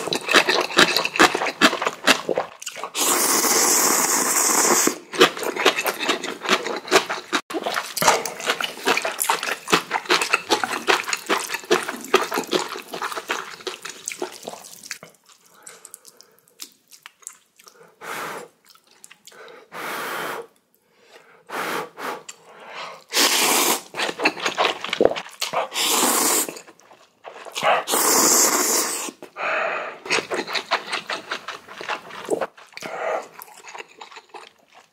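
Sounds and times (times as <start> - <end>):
chewing: 0.0 - 17.9, 18.6 - 19.6, 23.8 - 29.4, 30.0 - 34.9
noodles being slurped: 0.0 - 19.4, 22.2 - 29.4, 30.0 - 34.9.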